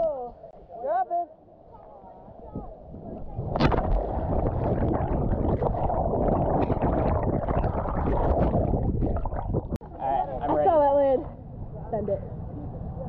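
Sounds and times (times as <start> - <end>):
wind buffeting microphone: 2.3 - 13.0.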